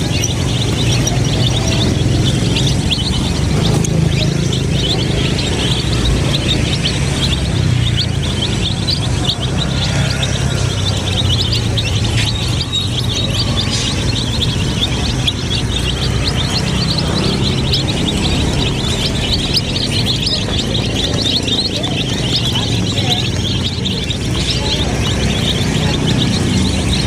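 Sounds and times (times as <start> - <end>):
chicks peeping: 0.0 - 27.0
steady low rumble: 0.0 - 27.0.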